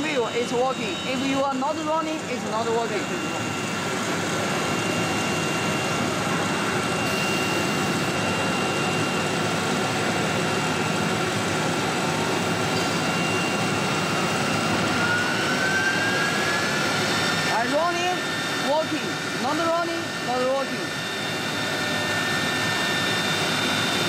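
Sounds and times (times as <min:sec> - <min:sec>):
machine whine: 0:00.0 - 0:24.0
rising whine: 0:00.0 - 0:24.0.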